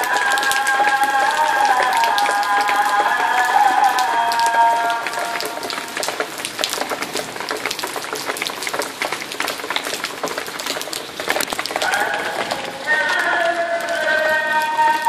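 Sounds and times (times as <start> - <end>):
rain drops splashing on concrete: 0.0 - 15.0.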